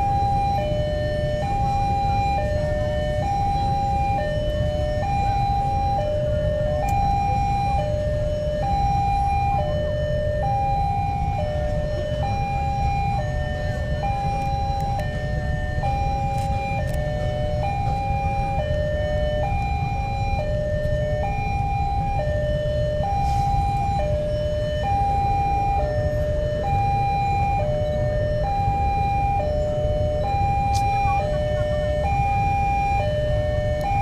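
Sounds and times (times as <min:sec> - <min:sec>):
two-tone crossing alarm chime: 0:00.0 - 0:34.0.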